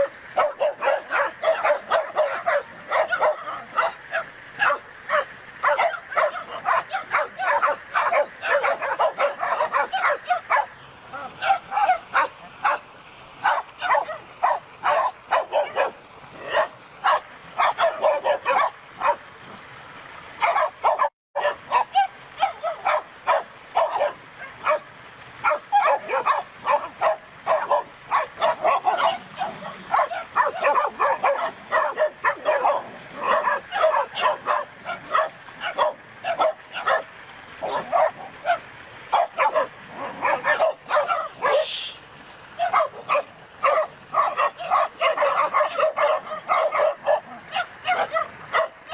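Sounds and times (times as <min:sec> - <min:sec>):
dogs barking and yapping: 0:00.0 - 0:19.3, 0:20.3 - 0:48.9.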